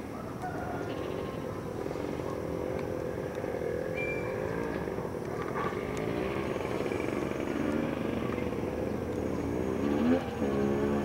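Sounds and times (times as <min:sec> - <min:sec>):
distant motorbike engine: 0:00.0 - 0:11.0.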